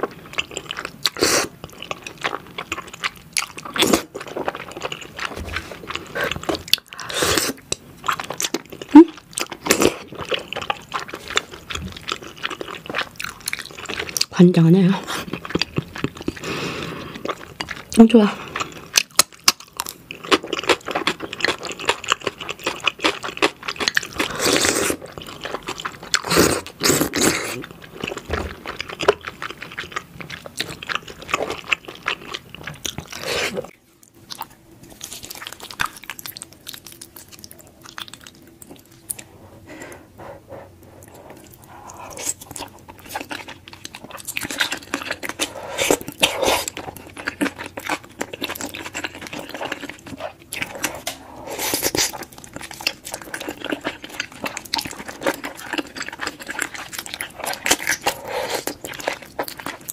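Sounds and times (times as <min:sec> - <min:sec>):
wet chewing: 0:00.0 - 0:14.4, 0:15.0 - 0:59.9.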